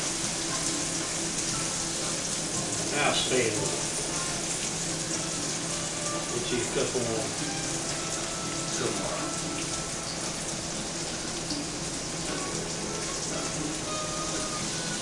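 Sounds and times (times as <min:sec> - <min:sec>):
bacon sizzling in a frying pan: 0:00.0 - 0:15.0.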